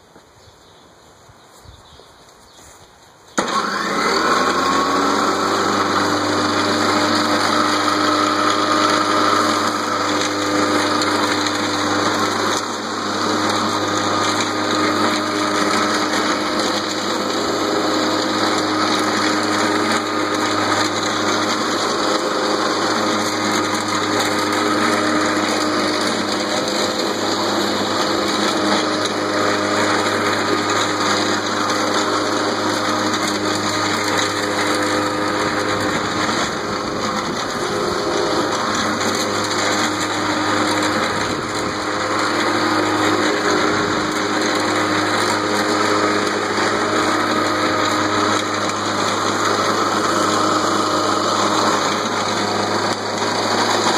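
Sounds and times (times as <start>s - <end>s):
electric lawn mower whining: 3.2s - 53.9s.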